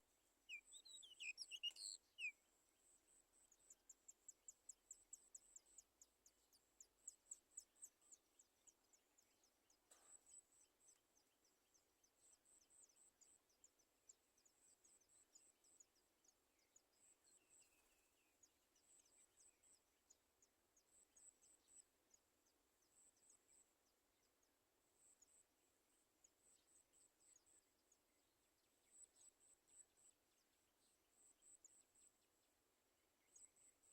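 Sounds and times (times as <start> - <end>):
faint high-pitched chirping: 0.0 - 33.9.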